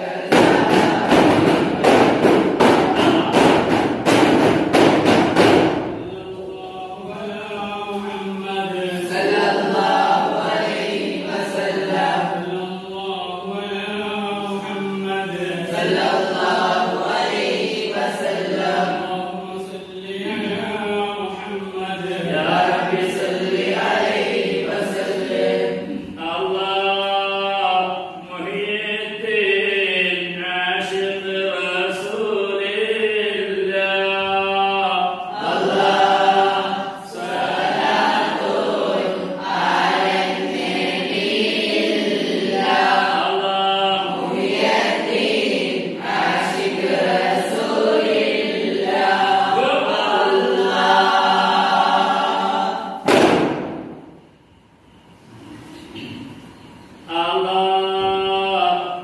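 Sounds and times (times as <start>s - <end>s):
group chanting unaccompanied: 0.0s - 4.4s, 5.6s - 54.0s.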